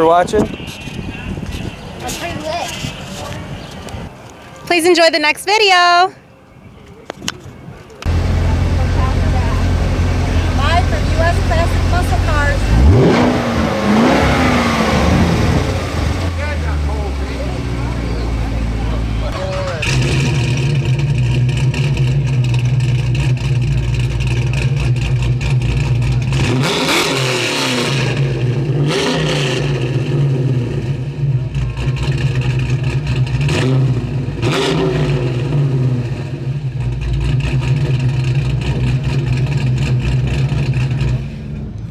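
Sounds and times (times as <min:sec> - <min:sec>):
vehicles passing by: 0:00.0 - 0:41.9
car engine running: 0:08.0 - 0:41.9.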